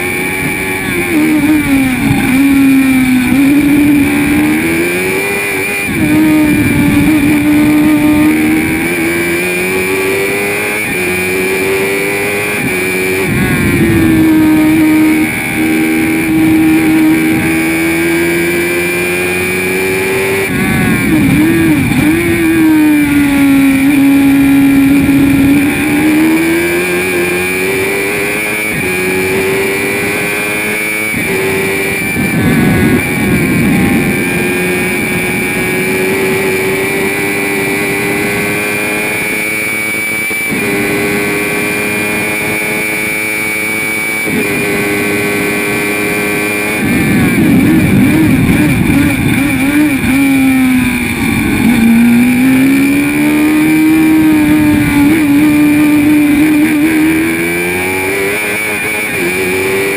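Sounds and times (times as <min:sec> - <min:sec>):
racing car engine revving: 0:00.0 - 0:59.9
steady high whine: 0:00.0 - 0:59.9.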